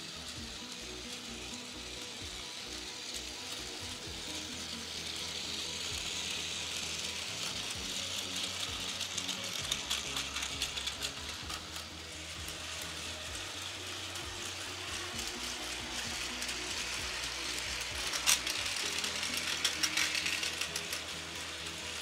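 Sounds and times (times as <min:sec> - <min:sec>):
toy train motor whirring: 0:00.0 - 0:22.0
wheels clicking over track: 0:00.0 - 0:22.0.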